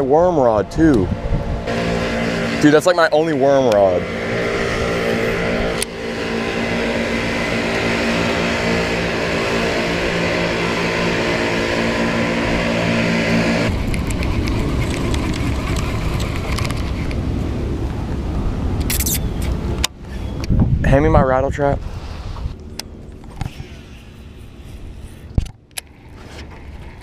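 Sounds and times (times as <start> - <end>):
boat motor running: 0.0 - 18.3, 22.4 - 27.0
wind rumble on microphone: 0.0 - 27.0.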